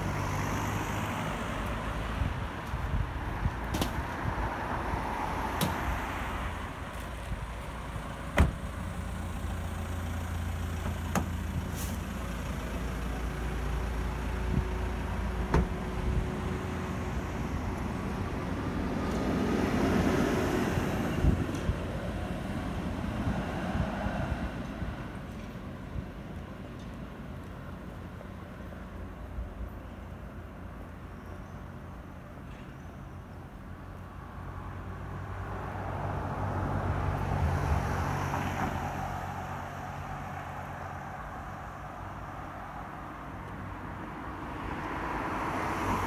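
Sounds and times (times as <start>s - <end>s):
road traffic hum: 0.0s - 46.0s.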